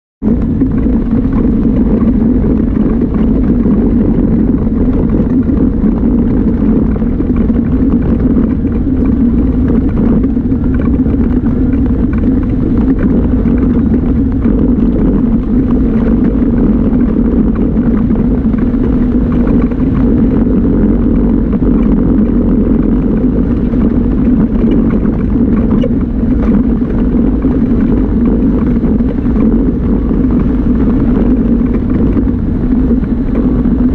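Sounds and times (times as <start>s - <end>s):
utility vehicle engine droning: 0.2s - 33.9s.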